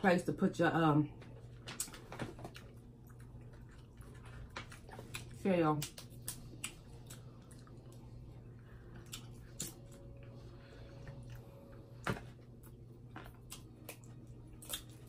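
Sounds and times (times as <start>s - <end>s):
steady low hum: 0.0s - 15.0s
faint chewing: 1.3s - 15.0s.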